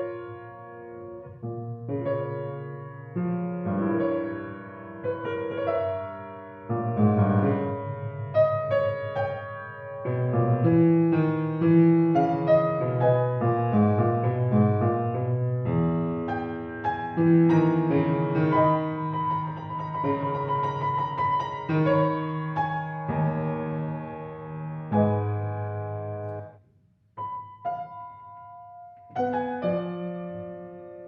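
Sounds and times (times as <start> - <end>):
solo piano music: 0.0 - 26.6, 27.2 - 31.0.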